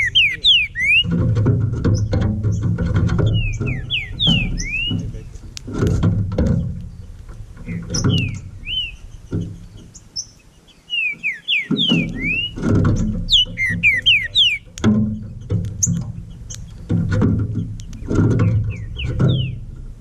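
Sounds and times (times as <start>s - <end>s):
bird singing whistled notes: 0.0s - 1.2s, 1.9s - 5.4s, 6.5s - 19.7s
low rumbling bursts: 0.0s - 10.6s, 12.0s - 20.0s.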